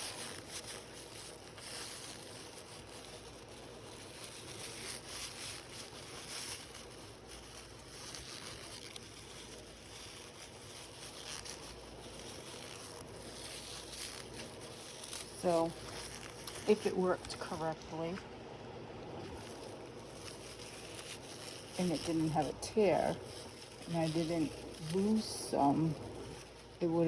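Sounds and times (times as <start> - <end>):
faint steady hiss: 0.0 - 27.0
light rustling: 0.0 - 27.0.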